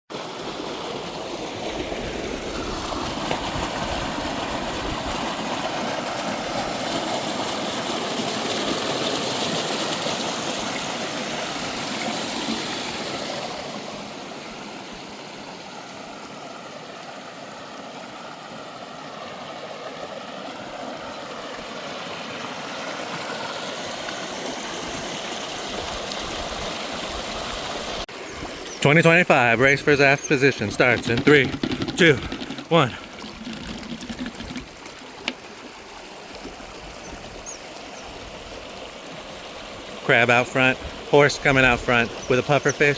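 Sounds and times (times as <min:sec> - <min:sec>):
creek water flowing over rocks: 0:00.1 - 0:42.9.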